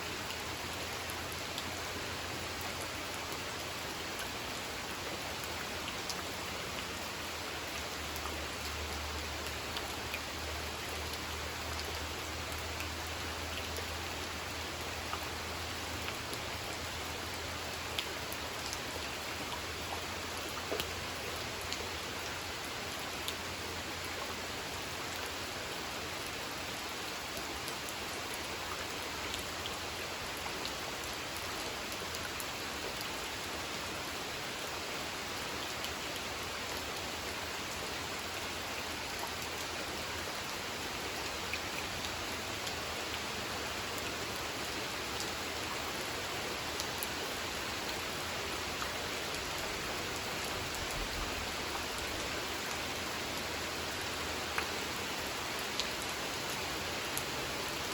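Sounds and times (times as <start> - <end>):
rain falling onto a pond: 0.0 - 57.9.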